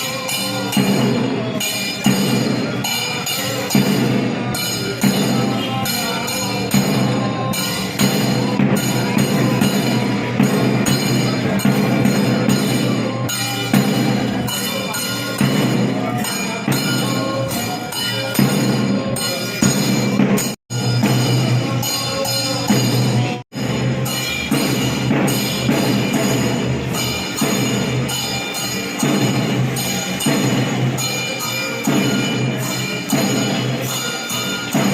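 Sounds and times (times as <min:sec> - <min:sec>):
drums playing dense rhythm: 0:00.0 - 0:34.9
ringing cymbals: 0:00.0 - 0:34.9.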